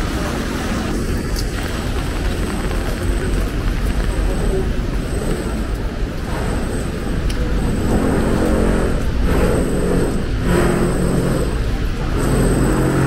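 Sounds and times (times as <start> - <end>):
engine hum: 0.0 - 13.0
rumble of passing vehicles: 0.0 - 13.0.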